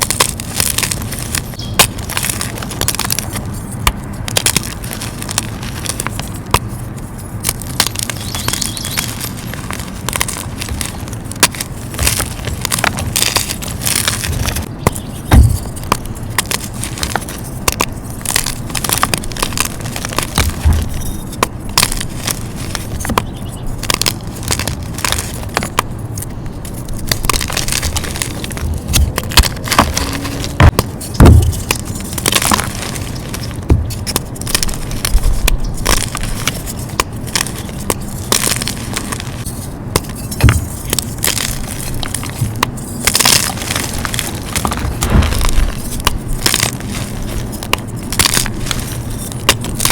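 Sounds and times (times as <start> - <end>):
chalk blocks crunching and cracking: 0.0 - 49.9.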